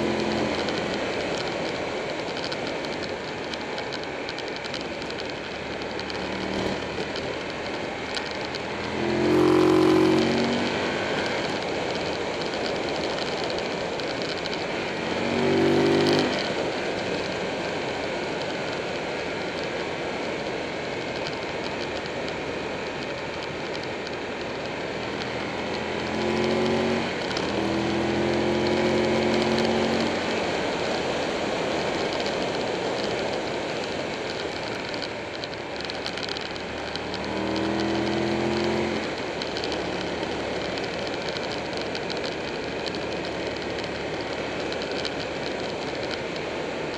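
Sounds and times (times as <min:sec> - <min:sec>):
motorcycle engine accelerating: 0:00.0 - 0:03.0, 0:05.3 - 0:18.0, 0:23.9 - 0:46.9
wind and road rush: 0:00.0 - 0:46.9.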